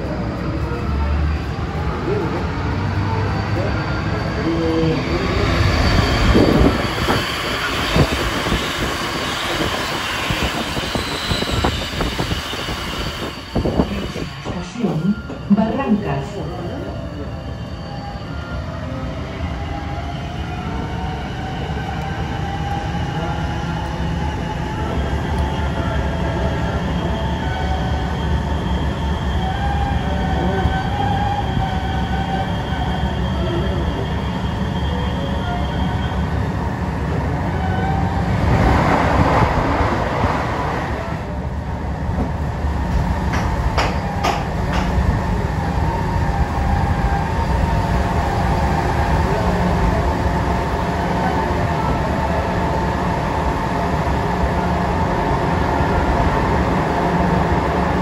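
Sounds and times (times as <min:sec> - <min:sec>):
metro train rumble with whine: 0:00.0 - 0:58.0.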